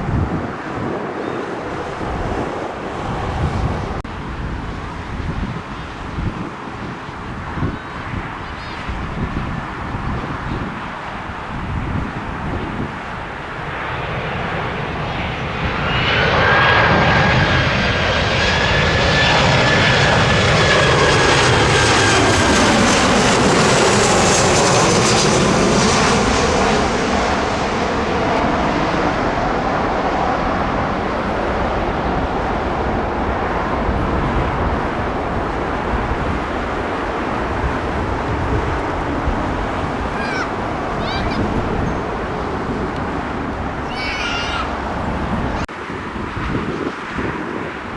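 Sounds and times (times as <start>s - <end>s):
airliner engines passing overhead: 0.0s - 47.9s.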